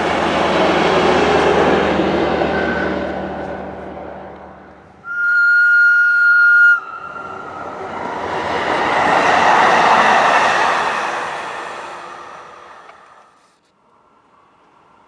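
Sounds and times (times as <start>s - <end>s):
tram passing on track: 0.0s - 15.0s.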